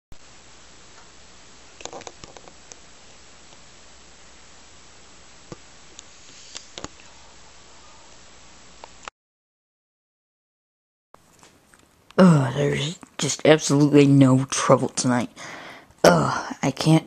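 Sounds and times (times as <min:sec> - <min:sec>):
recording hiss: 0:00.2 - 0:09.1, 0:11.2 - 0:17.0.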